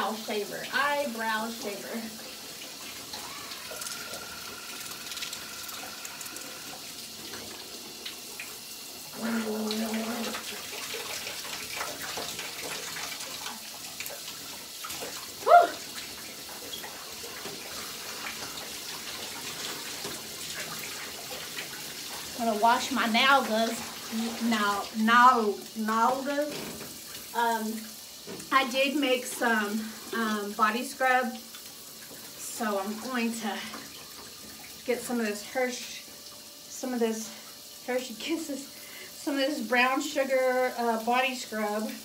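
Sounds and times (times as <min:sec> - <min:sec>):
shower water running: 0:00.0 - 0:42.0.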